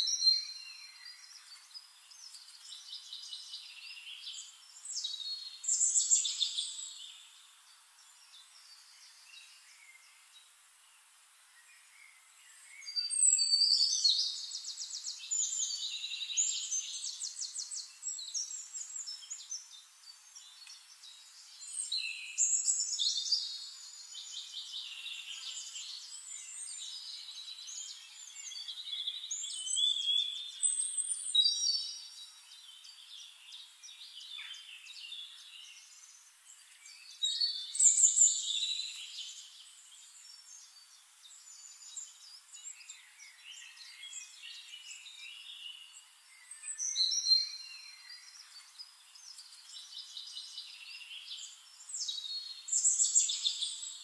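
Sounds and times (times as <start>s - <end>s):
birds chirping and trilling: 0.0s - 10.7s, 11.5s - 54.0s.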